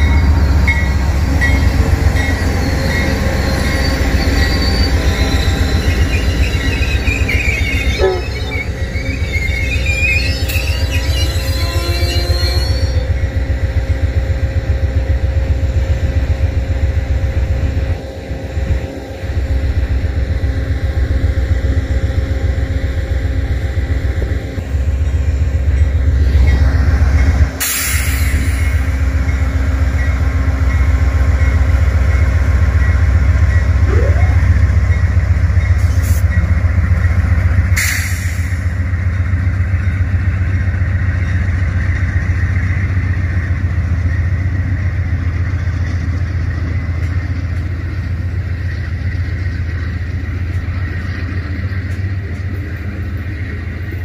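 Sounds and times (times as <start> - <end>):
diesel train rumbling: 0.0 - 54.0.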